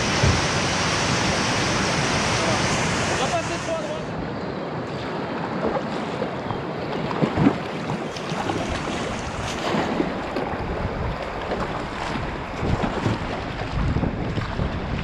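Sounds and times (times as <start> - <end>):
whitewater rushing and splashing: 0.0 - 15.0.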